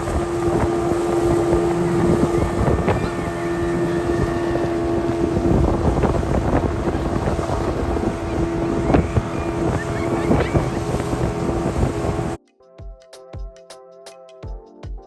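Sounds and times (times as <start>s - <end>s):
motorboat engine running: 0.0s - 12.4s
steady drone: 0.0s - 12.4s
water splashing: 0.0s - 12.4s
wind buffeting microphone: 0.0s - 12.4s.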